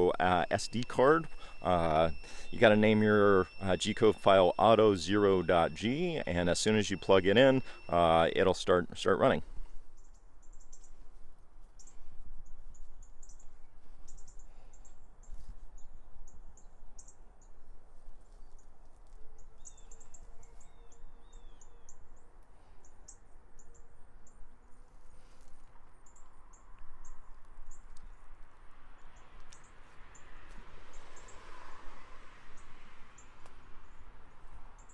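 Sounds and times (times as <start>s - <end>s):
birds chirping: 0.0s - 31.5s.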